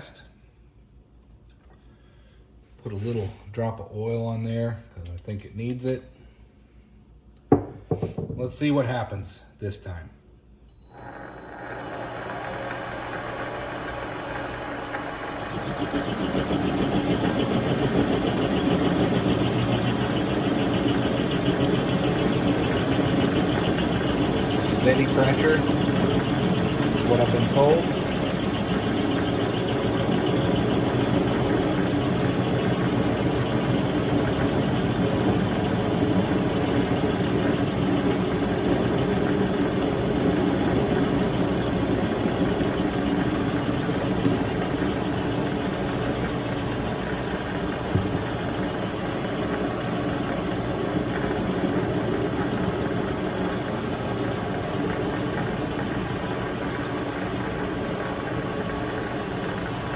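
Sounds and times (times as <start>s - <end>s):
lathe motor and gear drone: 10.9s - 59.9s.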